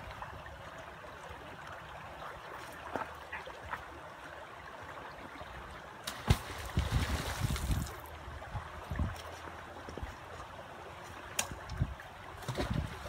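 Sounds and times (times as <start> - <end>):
shallow river flowing: 0.0 - 13.0.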